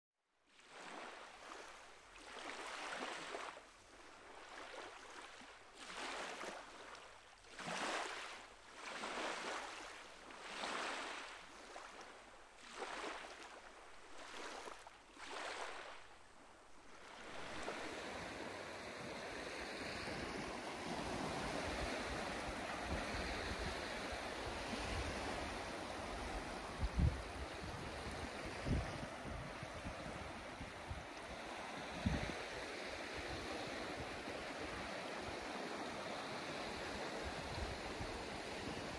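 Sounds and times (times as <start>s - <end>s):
small waves washing onto beach: 0.5s - 38.9s.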